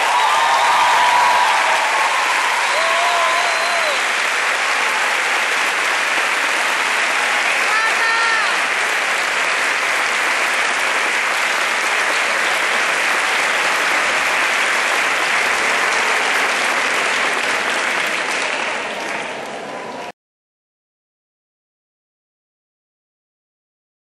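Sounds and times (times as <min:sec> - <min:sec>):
audience applauding: 0:00.0 - 0:19.9.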